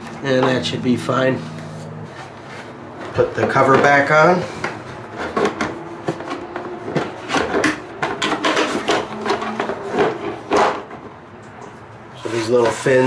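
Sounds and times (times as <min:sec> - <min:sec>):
plastic scraping against plastic: 0:00.0 - 0:13.0.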